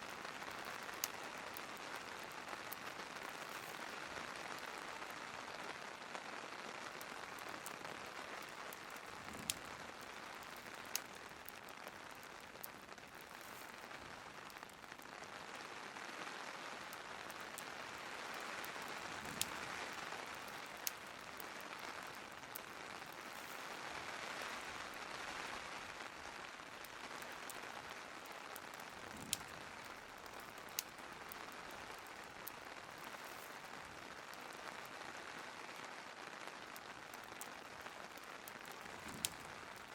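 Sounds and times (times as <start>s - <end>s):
sharp pops from fire: 0.0s - 35.0s, 36.6s - 39.9s
crackling fireplace: 0.0s - 39.9s
steady rain: 0.0s - 39.9s.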